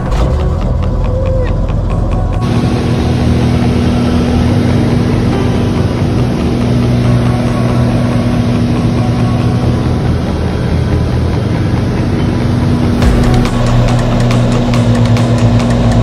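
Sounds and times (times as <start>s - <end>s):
plane engine droning: 0.0s - 16.0s.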